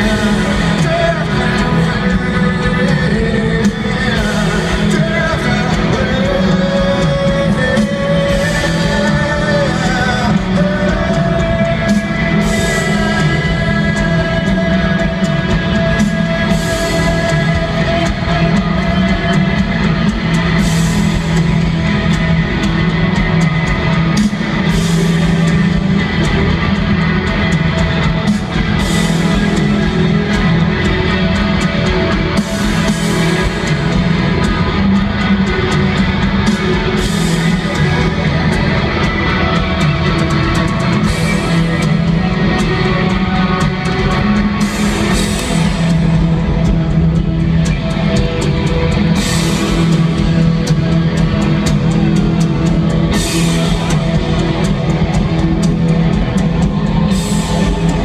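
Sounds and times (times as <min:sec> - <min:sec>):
electric guitars: 0:00.0 - 0:58.0
person singing: 0:00.0 - 0:58.0.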